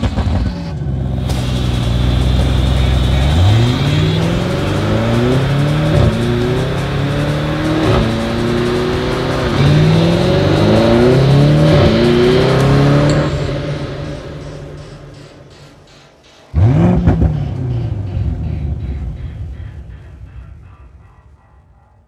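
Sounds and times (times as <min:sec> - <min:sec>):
car engine revving through upshifts: 0:00.0 - 0:20.0.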